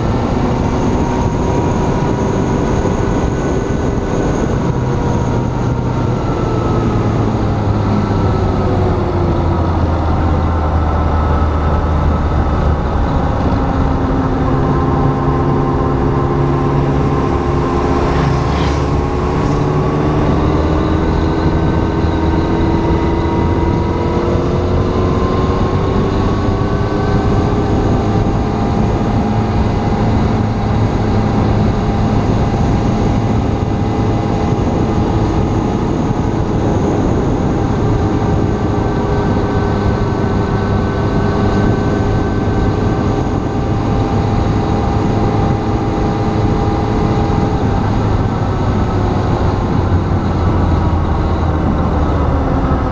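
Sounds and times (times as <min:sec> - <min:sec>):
motorcycle engine running: 0:00.0 - 0:52.9
motorcycle passing by: 0:00.0 - 0:52.9
wind and road noise: 0:00.0 - 0:52.9.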